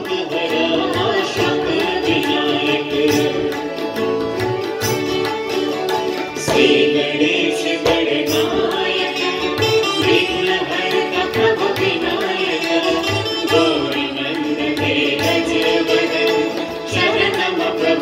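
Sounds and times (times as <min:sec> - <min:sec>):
harmonium chords: 0:00.0 - 0:18.0
tabla drumming: 0:00.0 - 0:18.0.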